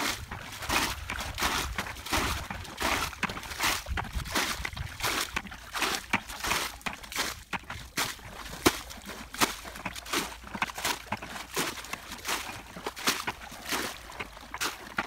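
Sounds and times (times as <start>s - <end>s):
muddy water sloshing and splashing: 0.0s - 15.0s.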